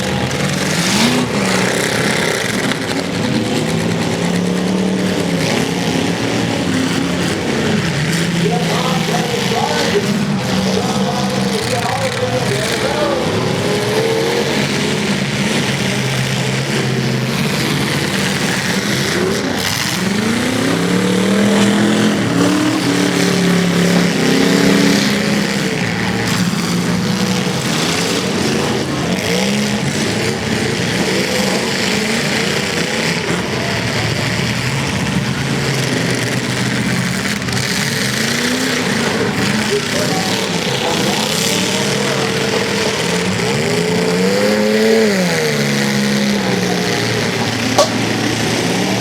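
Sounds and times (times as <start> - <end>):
car engines revving: 0.0 - 49.0
cars hitting each other: 0.0 - 49.0.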